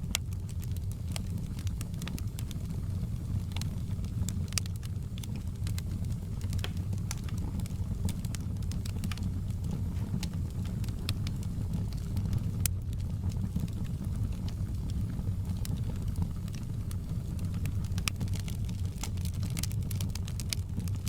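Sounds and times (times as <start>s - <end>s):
burning wood popping: 0.0s - 21.0s
fire crackling: 0.0s - 21.0s.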